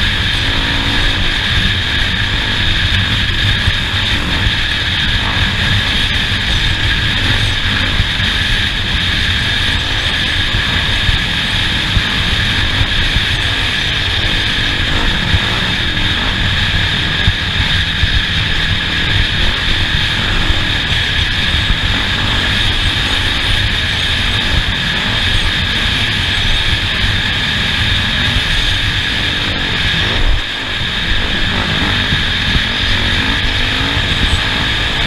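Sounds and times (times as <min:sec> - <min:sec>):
race vehicle engine running hard: 0:00.0 - 0:35.0.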